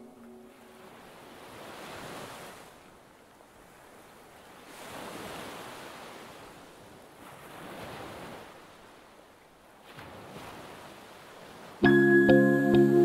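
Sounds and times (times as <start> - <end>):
small waves washing onto beach: 0.1 - 11.8.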